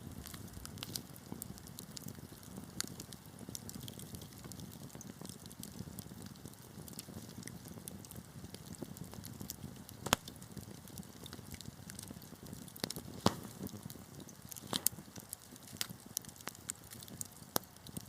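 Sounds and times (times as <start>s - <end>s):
low rush of flame: 0.0s - 18.0s
sharp fire pops: 0.0s - 18.0s
wood fire crackling: 0.0s - 18.0s.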